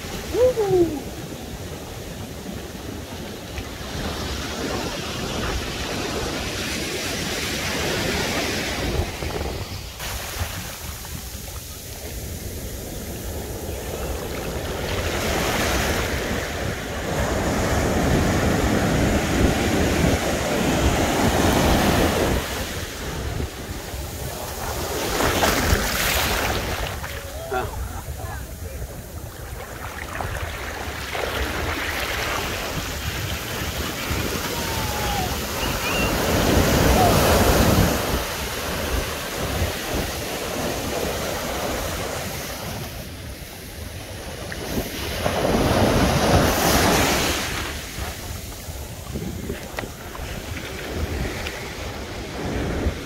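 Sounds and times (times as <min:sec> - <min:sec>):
water rushing over sand: 0:00.0 - 0:53.0
waves breaking: 0:00.0 - 0:53.0
wind buffeting microphone: 0:07.9 - 0:53.0.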